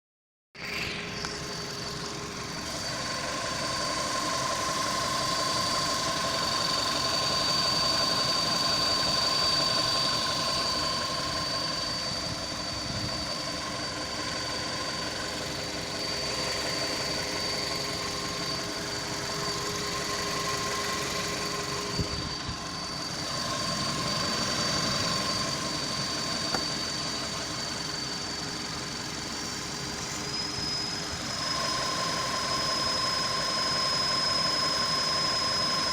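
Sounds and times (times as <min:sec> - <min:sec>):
high-pitched pulley whistle: 0:00.6 - 0:35.9.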